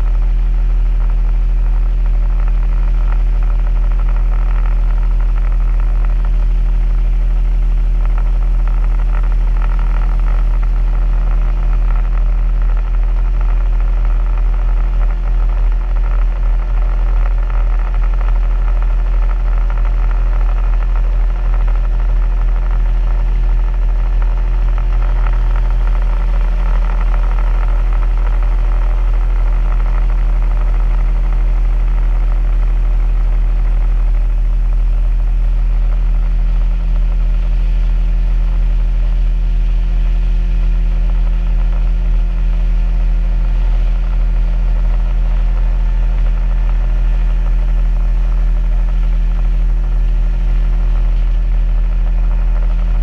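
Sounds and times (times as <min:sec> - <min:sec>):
outboard motor droning: 0:00.0 - 0:53.0.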